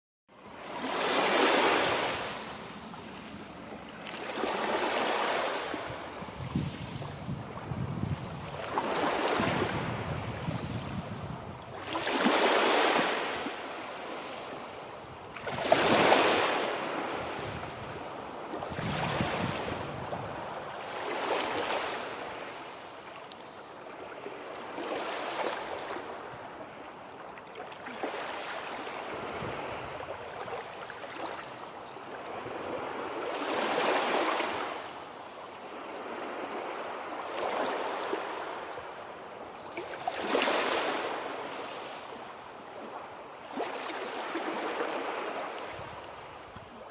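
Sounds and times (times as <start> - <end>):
sea waves breaking on shore: 0.4 - 46.9.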